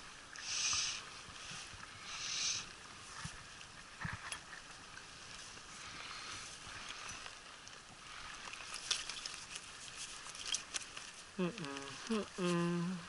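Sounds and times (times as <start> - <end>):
river water running: 0.0 - 13.0.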